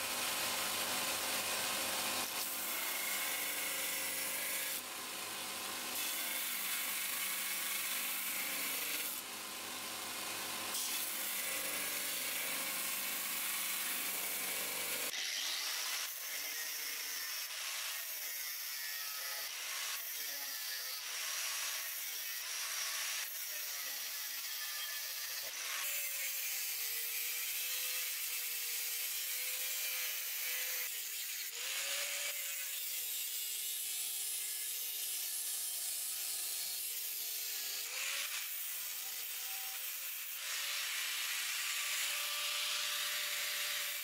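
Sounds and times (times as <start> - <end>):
belt grinder grinding steel: 0.0 - 44.0.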